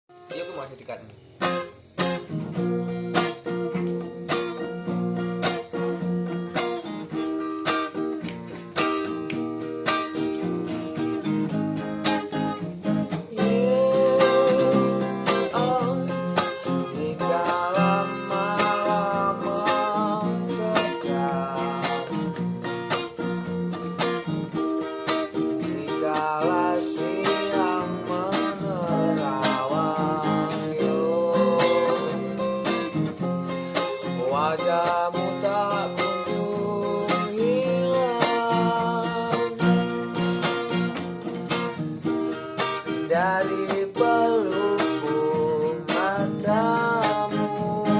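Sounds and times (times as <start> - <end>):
acoustic guitar strumming reggae rhythm: 0.1 - 47.9.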